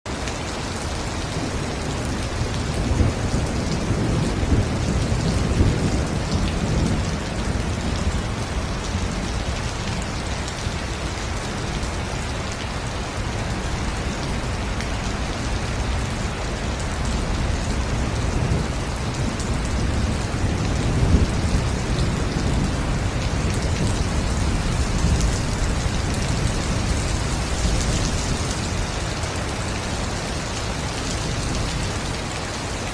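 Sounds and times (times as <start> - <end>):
heavy rain on foliage: 0.1 - 32.9
low thunder rumbling: 1.0 - 32.5.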